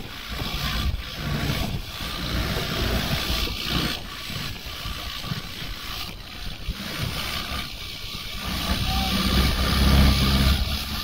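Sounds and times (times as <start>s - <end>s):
low boat engine rumble: 0.0s - 11.0s
water rushing and splashing: 0.0s - 11.0s.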